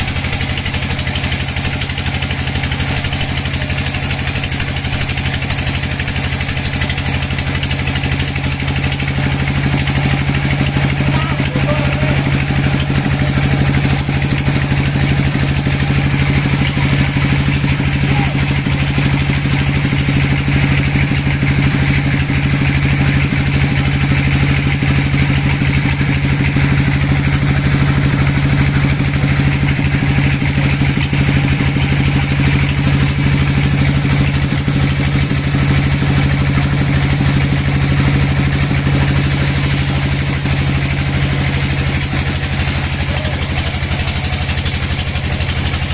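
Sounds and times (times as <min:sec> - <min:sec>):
engine low hum: 0:00.0 - 0:45.9
sawmill machinery running: 0:00.0 - 0:45.9.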